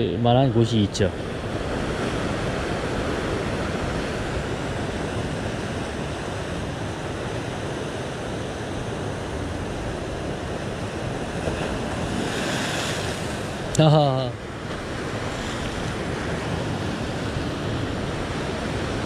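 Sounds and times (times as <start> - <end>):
sea surf breaking on rocks: 0.6 - 19.0.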